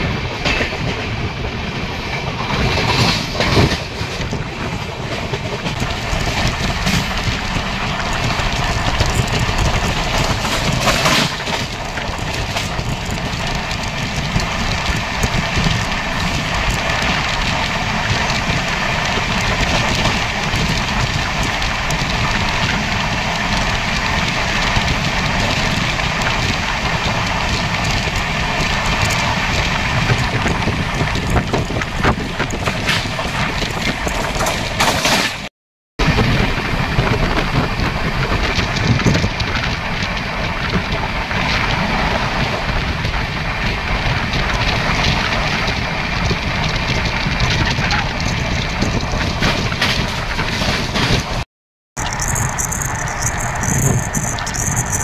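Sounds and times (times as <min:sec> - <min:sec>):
train wheels rolling on rails: 0:00.0 - 0:51.4, 0:52.0 - 0:55.0.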